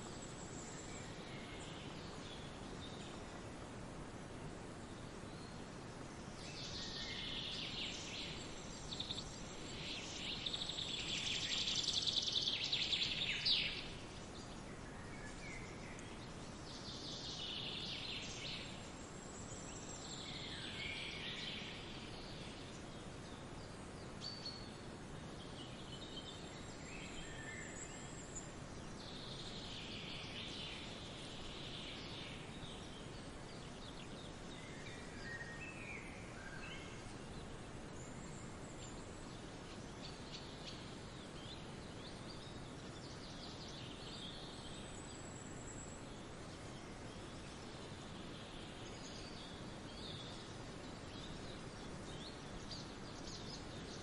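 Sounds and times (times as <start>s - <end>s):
birds singing: 0.0s - 3.6s, 4.8s - 54.0s.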